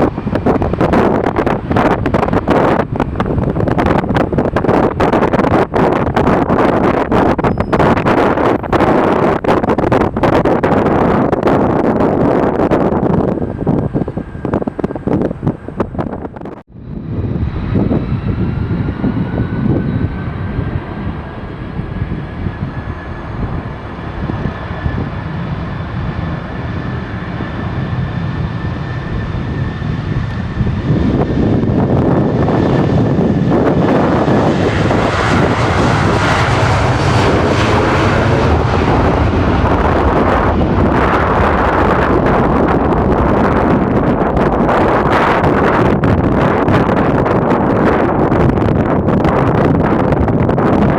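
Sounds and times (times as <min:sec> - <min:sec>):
jet engines roaring: 0:00.0 - 0:50.9
wind buffeting microphone: 0:00.0 - 0:50.9.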